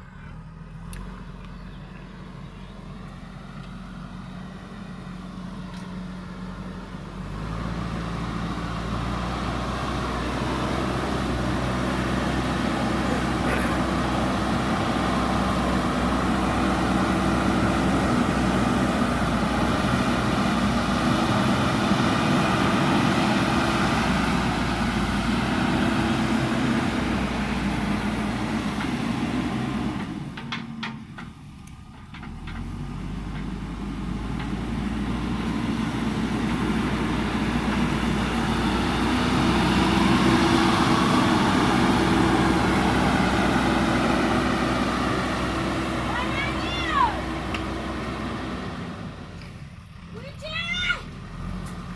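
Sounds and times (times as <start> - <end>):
diesel engine working under load: 0.0 - 51.9.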